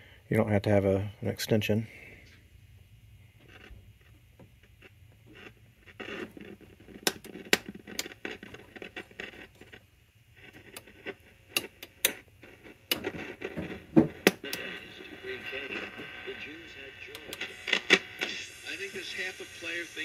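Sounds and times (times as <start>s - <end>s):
radio static hiss: 0.0s - 20.0s
crackles and clicks: 2.2s - 19.7s.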